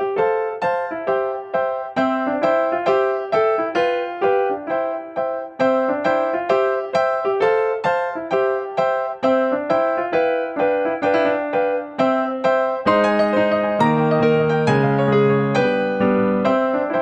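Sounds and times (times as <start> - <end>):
bright keyboard piece: 0.0 - 17.0.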